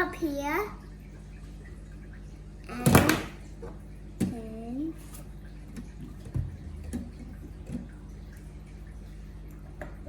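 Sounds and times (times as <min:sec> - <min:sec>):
steady low hum: 0:00.7 - 0:10.0.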